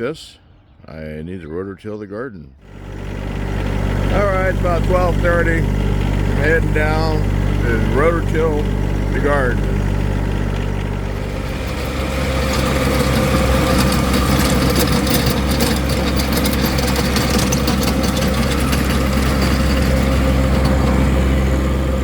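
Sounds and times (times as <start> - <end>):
rototiller engine running: 2.6 - 22.0
tines churning soil: 2.6 - 22.0.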